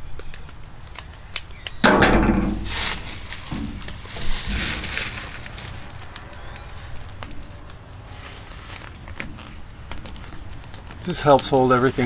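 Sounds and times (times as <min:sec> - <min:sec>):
tape rustling and crackling: 0:00.0 - 0:12.0.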